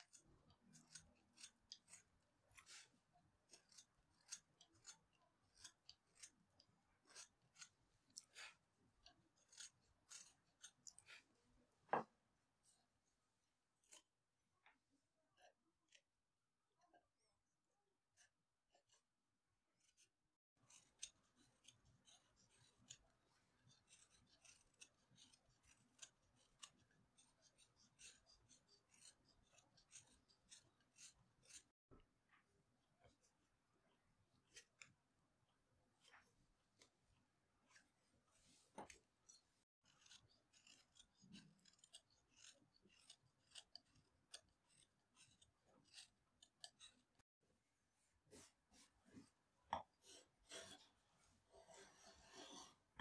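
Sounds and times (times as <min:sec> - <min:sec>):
knife shaving wood: 0:00.0 - 0:53.0.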